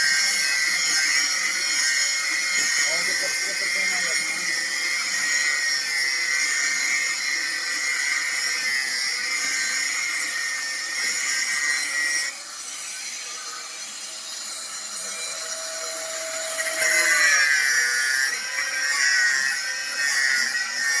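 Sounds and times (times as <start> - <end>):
electric grinder cutting: 0.0 - 21.0.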